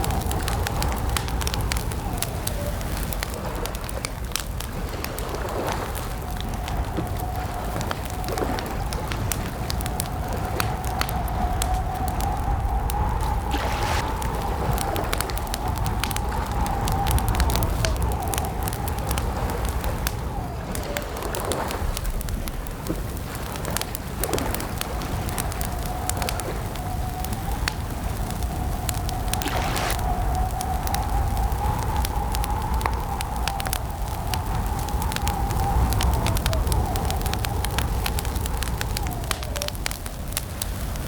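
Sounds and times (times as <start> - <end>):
campfire crackling and popping: 0.0 - 41.0.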